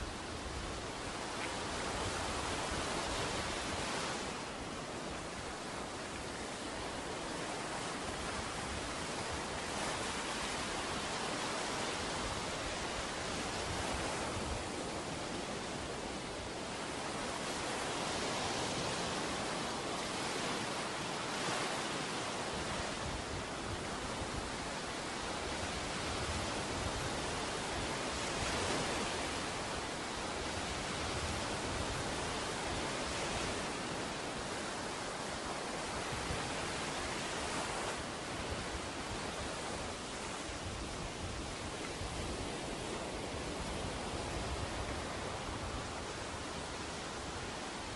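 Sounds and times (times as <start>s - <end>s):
ocean waves washing on beach: 0.0s - 47.9s.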